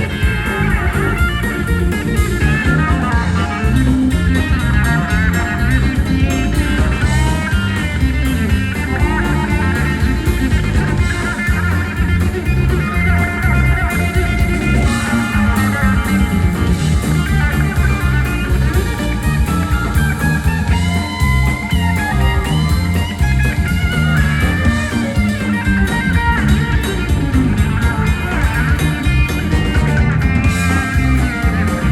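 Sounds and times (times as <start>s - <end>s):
bass guitar: 0.0s - 31.9s
drum beat with cymbals: 0.0s - 31.9s
electric guitar lead: 0.0s - 31.9s.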